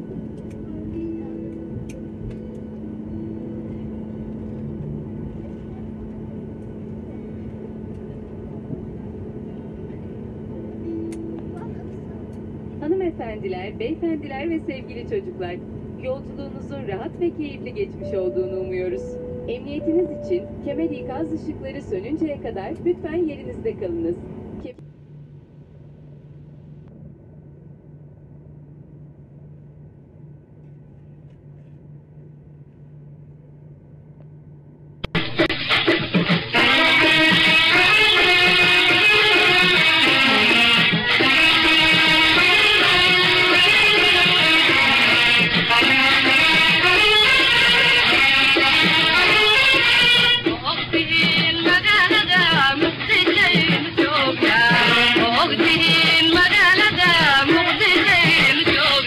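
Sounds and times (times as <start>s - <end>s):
jet engine drone in cabin: 0.0s - 59.0s.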